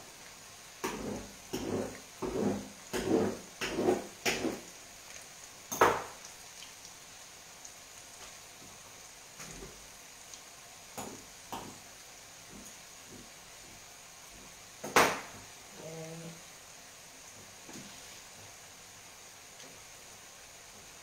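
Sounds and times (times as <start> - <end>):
pastry sizzling in hot oil: 0.0 - 21.0.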